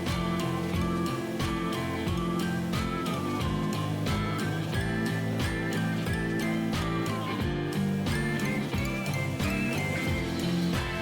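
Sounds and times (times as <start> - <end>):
light instrumental music: 0.0 - 11.0.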